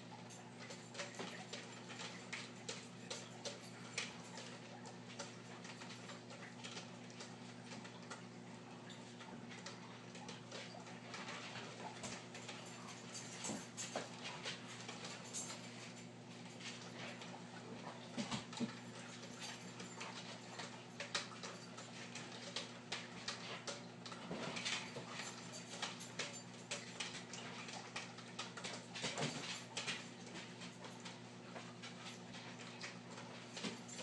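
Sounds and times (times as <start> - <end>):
aquarium equipment hum: 0.0 - 34.0.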